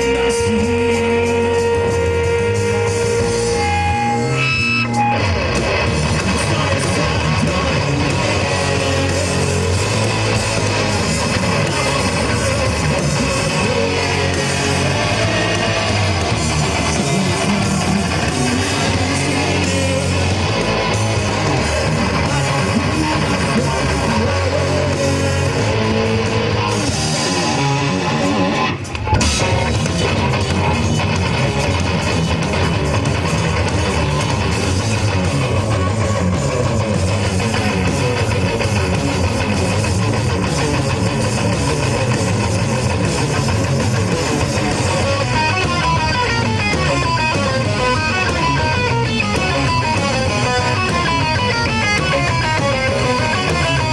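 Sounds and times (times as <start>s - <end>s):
bass guitar: 0.0s - 53.9s
distorted electric guitars: 0.0s - 53.9s
drum kit: 0.0s - 53.9s.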